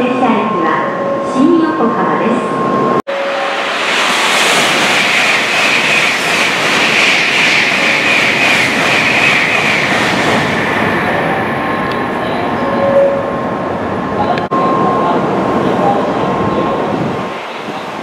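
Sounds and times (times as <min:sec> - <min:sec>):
train rushing through station: 0:00.0 - 0:18.0.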